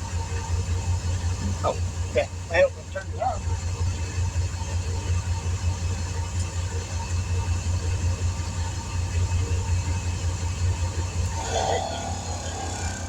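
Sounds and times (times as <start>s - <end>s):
motor running with pulsing hum: 0.0s - 13.0s.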